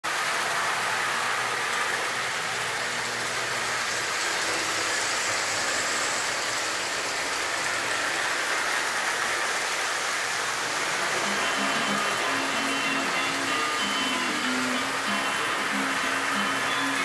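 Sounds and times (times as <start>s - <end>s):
toy train wheels clattering on rails: 0.1s - 17.0s.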